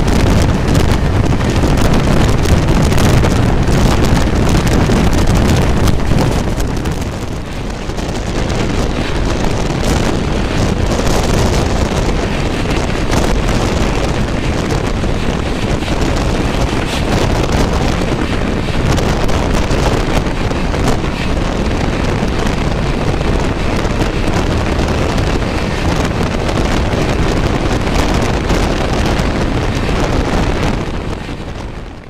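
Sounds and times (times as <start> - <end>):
rushing wind: 0.0 - 32.0
train wheels on rails: 0.0 - 32.0
wind buffeting microphone: 0.0 - 32.0.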